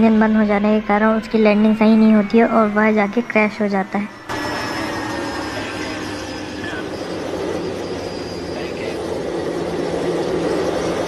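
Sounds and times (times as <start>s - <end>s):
high-pitched engine whine: 0.0s - 11.0s
jet engines rushing: 0.0s - 11.0s.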